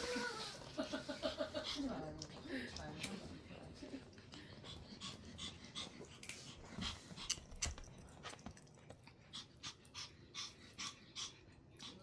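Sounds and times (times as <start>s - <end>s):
dog panting: 0.1s - 12.0s.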